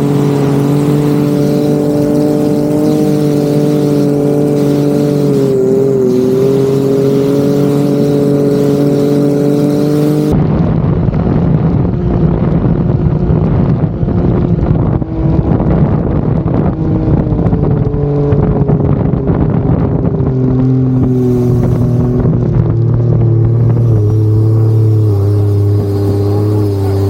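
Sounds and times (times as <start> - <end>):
boat engine running hard: 0.0 - 10.4, 11.8 - 27.0
dense rushing noise: 0.0 - 19.7, 20.6 - 27.0.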